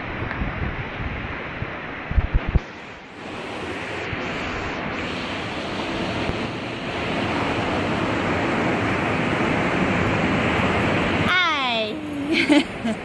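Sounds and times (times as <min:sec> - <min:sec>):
wind buffeting microphone: 0:00.0 - 0:11.3
surf breaking on beach: 0:00.0 - 0:13.0.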